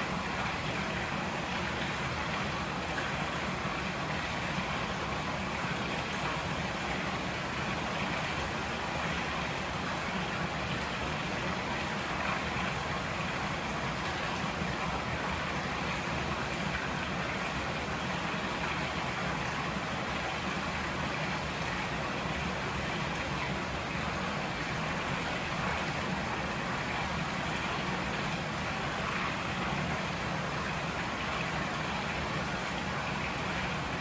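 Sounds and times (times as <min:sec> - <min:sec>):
river rushing: 0:00.0 - 0:34.0.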